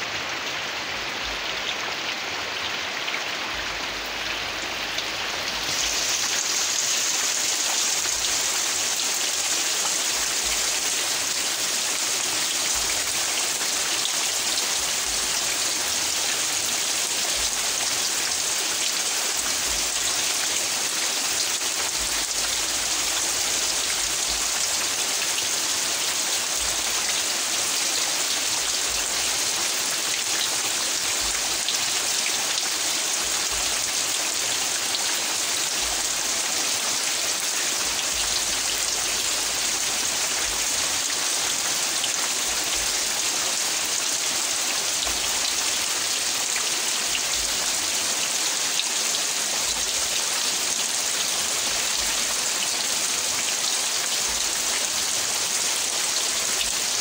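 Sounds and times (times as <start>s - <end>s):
steady rain on foliage: 0.0s - 57.0s.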